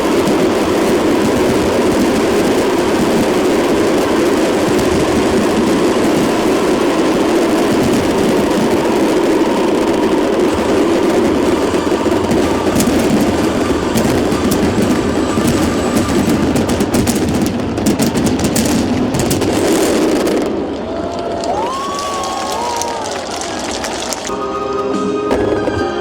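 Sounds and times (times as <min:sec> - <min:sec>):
vehicle rumbling in motion: 0:00.0 - 0:26.0.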